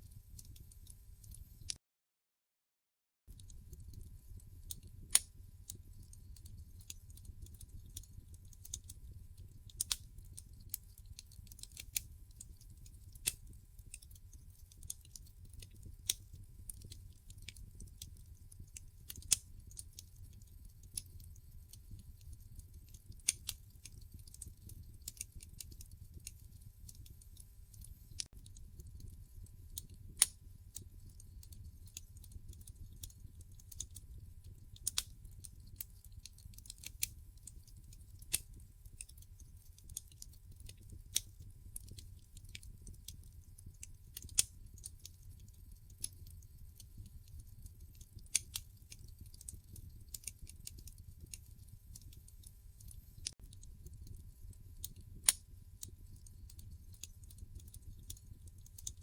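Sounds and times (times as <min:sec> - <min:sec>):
wood fire crackling and popping: 0:00.0 - 0:01.8, 0:03.3 - 0:59.0.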